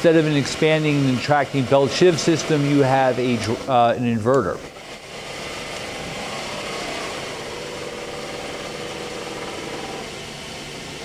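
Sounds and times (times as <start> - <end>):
milling machine spindle humming: 0.0 - 11.0.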